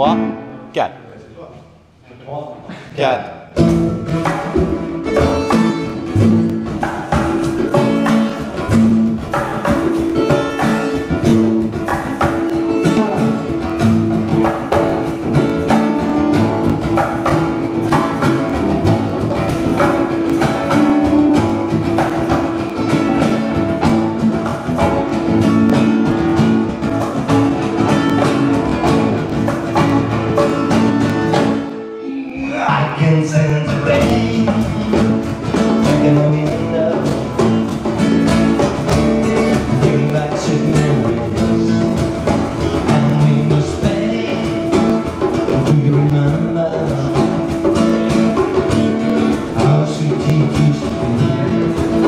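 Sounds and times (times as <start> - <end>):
live band playing soul music: 3.5 - 52.0.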